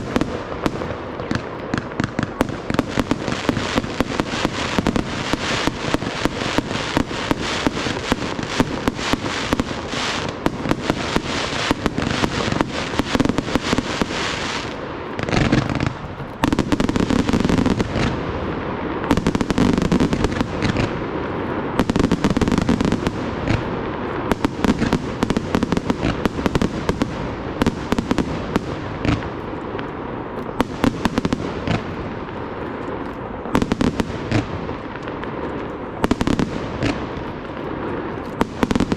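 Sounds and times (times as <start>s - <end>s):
deep fireworks booms: 0.0s - 38.9s
fireworks bangs and crackling: 0.0s - 38.9s.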